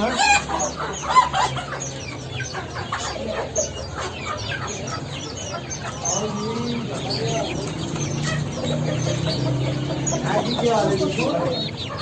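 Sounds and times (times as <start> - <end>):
birds calling: 0.0 - 12.0
chickens clucking: 0.0 - 12.0.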